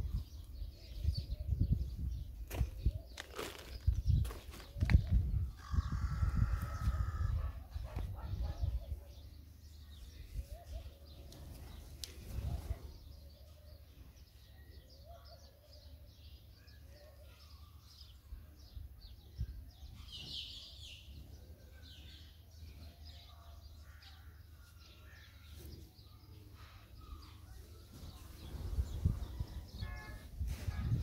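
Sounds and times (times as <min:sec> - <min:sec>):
small birds chirping: 0:00.0 - 0:30.4.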